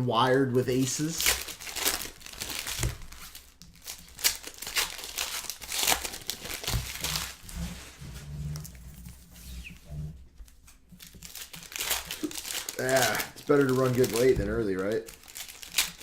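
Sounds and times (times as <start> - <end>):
foil wrappers crinkling and tearing: 0.7 - 9.8, 10.9 - 16.0.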